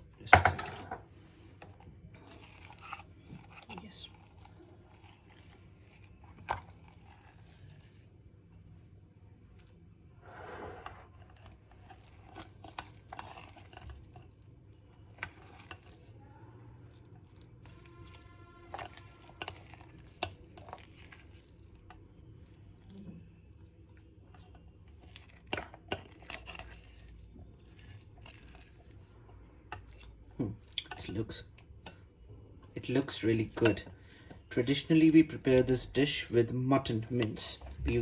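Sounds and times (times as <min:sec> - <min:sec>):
wet squishing of kneaded meat: 0:01.2 - 0:10.2, 0:11.1 - 0:38.0.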